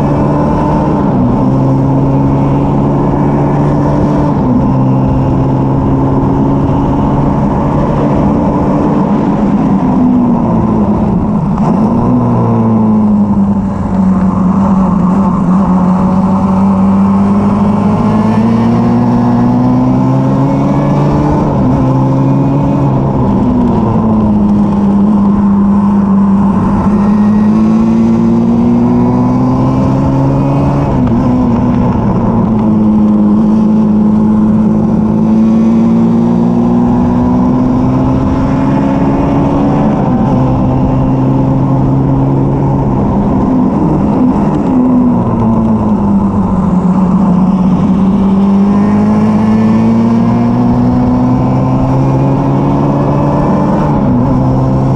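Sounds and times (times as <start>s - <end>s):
race car engine: 0.0s - 54.9s
wind and road noise: 0.0s - 54.9s.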